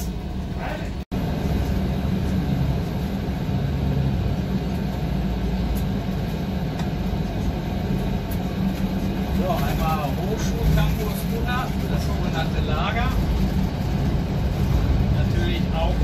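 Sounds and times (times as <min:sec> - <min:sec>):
bus engine humming: 0:00.0 - 0:16.0
road noise: 0:00.0 - 0:16.0.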